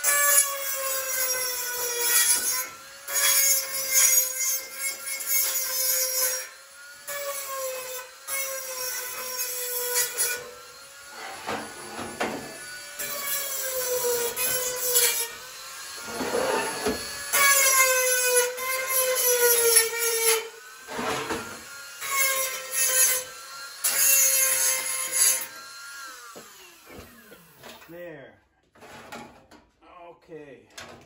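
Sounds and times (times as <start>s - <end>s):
rotary tool whining on metal: 0.0s - 27.9s.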